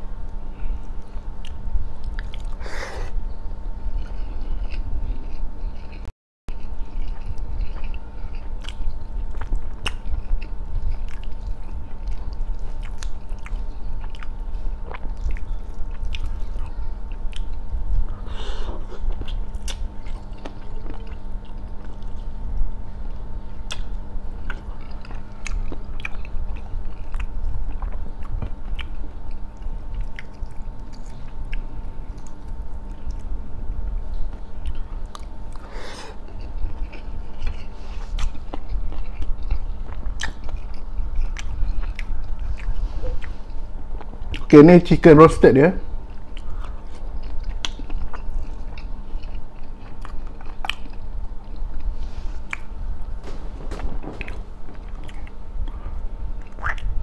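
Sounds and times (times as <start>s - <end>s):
faint steady hum: 0.0s - 57.0s
wet chewing mouth sounds: 1.0s - 3.2s, 3.9s - 22.7s, 23.6s - 33.4s, 34.1s - 44.5s, 46.1s - 57.0s.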